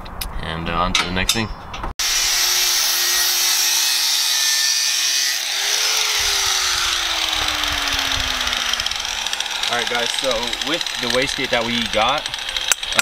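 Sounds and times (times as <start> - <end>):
angle grinder grinding metal: 2.0 - 13.0.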